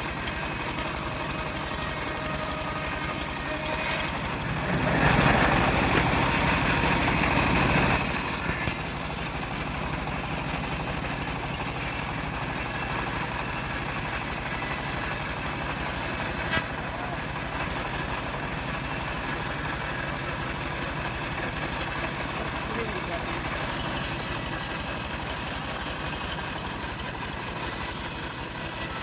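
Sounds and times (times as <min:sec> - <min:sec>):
chainsaw running: 0:00.0 - 0:29.0.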